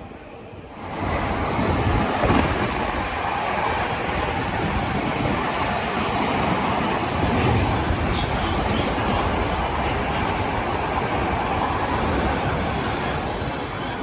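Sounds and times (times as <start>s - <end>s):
train passing on track: 0.0s - 14.0s.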